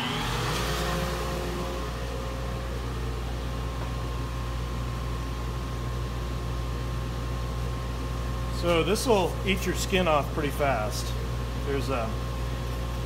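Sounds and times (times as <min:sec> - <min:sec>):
dust collector motor hum: 0:00.0 - 0:13.0.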